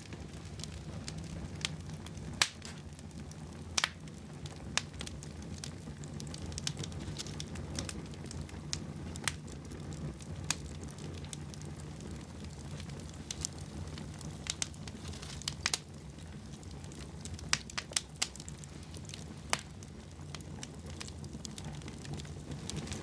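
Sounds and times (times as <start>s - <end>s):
fire crackling and popping: 0.0s - 23.0s
low rumble of fire: 0.0s - 23.0s.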